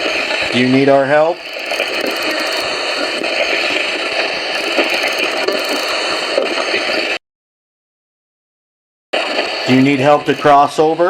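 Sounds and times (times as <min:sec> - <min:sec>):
white-noise hiss: 0:00.0 - 0:07.2, 0:09.2 - 0:11.0.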